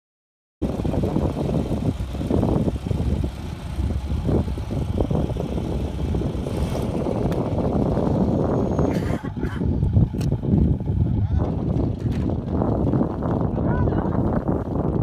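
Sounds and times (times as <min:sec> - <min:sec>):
propeller plane engine rumbling: 0:00.6 - 0:15.0.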